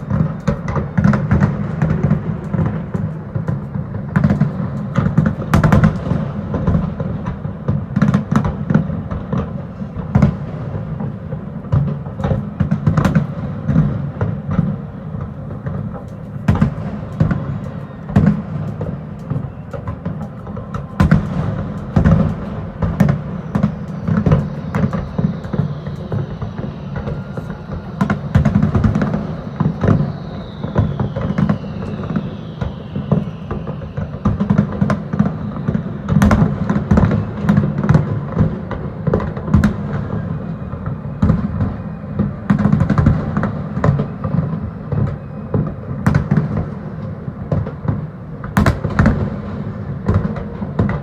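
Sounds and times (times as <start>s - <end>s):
fireworks bangs: 0.0s - 51.0s.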